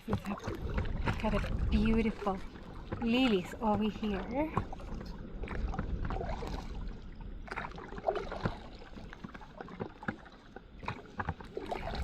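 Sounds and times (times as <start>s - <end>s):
paddle strokes in water: 0.0s - 12.0s
water splashes and drips: 0.0s - 12.0s.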